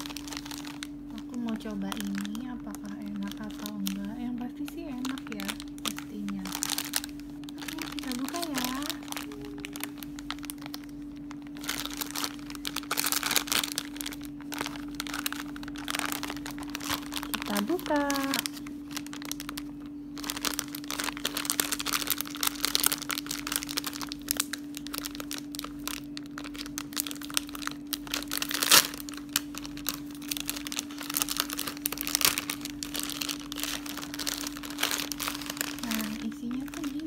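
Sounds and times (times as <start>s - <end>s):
bag tearing crack: 0.0s - 4.0s, 4.6s - 37.0s
low hum: 0.0s - 37.0s
plastic snack bag crinkling: 0.0s - 37.0s.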